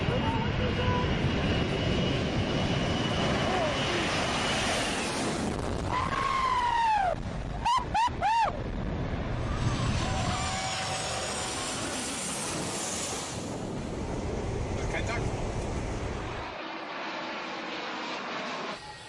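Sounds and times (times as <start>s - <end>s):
high engine whine: 0.0s - 19.0s
jet engine rush: 0.0s - 19.0s.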